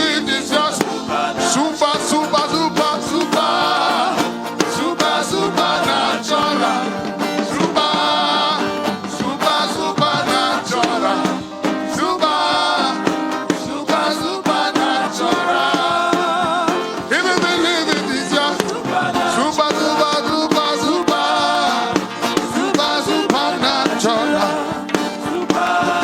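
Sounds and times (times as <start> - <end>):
band playing gospel music: 0.0 - 26.0
voices singing: 0.0 - 26.0.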